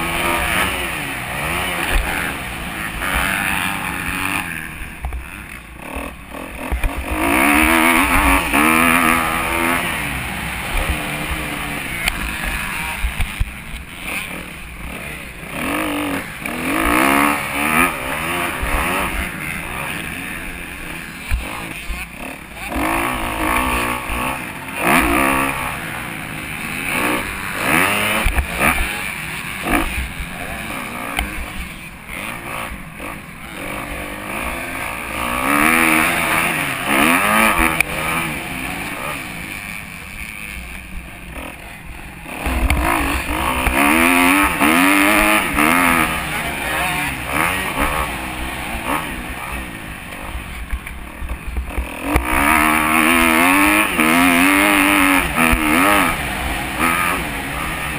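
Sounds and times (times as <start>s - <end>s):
motocross bike engine racing: 0.0s - 57.9s.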